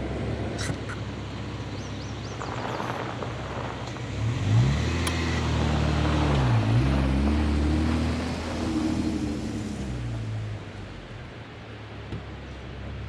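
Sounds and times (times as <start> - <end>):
vehicle engine accelerating: 0.0 - 11.2
road noise: 0.0 - 13.0.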